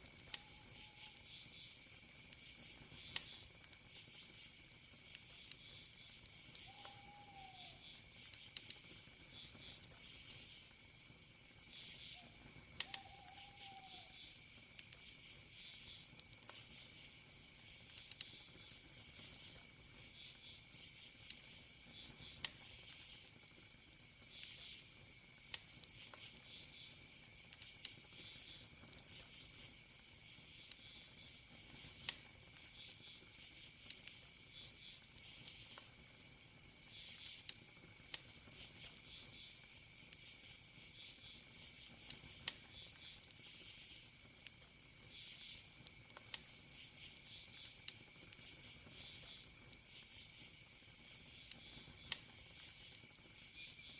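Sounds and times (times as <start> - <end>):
campfire crackling and popping: 0.0 - 53.9
crickets chirping: 0.0 - 53.9
high insect tone: 0.2 - 53.9.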